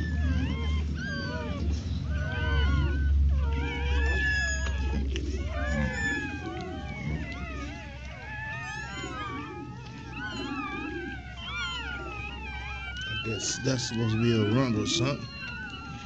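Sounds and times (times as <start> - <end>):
puppies squealing and whining: 0.0 - 16.0.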